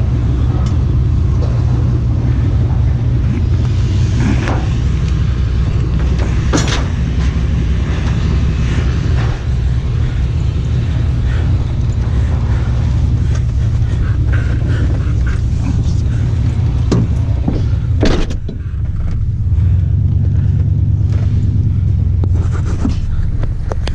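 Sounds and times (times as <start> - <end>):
truck engine and road rumble: 0.0 - 23.9.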